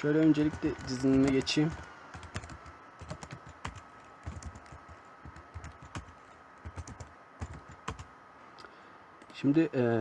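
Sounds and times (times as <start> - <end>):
computer keyboard typing: 0.0 - 8.1.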